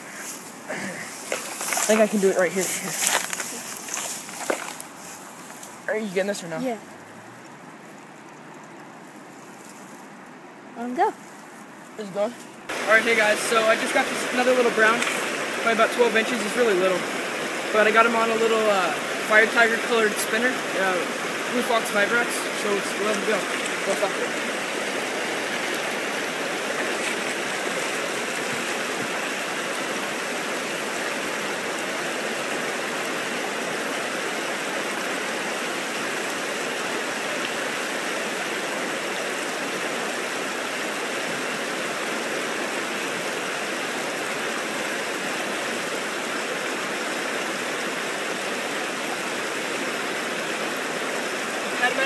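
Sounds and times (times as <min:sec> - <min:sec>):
river rushing over stones: 0:00.0 - 0:11.0, 0:11.6 - 0:52.0.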